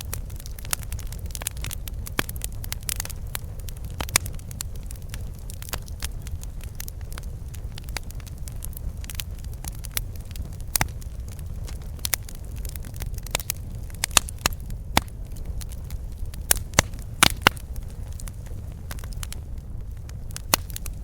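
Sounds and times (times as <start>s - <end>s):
campfire crackling and popping: 0.0s - 21.0s
steady low rumble: 0.0s - 21.0s.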